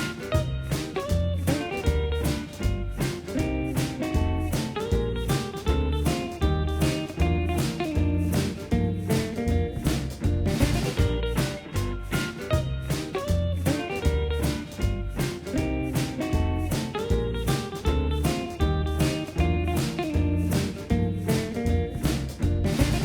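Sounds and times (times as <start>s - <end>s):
bluesy guitar music: 0.0s - 23.0s.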